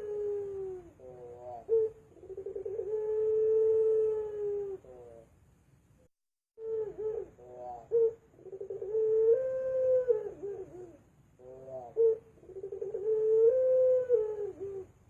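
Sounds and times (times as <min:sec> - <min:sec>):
dove cooing: 0:00.0 - 0:05.3, 0:06.6 - 0:15.0.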